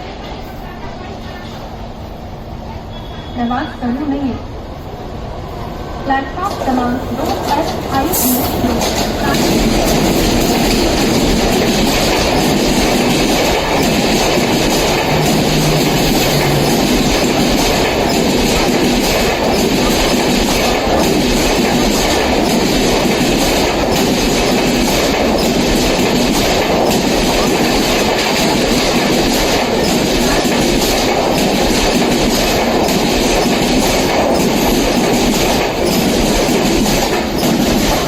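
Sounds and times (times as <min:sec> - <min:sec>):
train wheels rumbling on rails: 0:00.0 - 0:38.0
wheels clacking over rail joints: 0:06.4 - 0:38.0.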